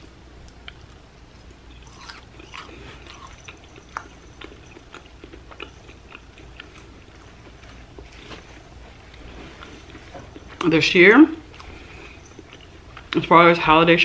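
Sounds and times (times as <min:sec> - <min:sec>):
chewing with wet mouth clicks: 0:00.4 - 0:10.8, 0:11.5 - 0:13.3.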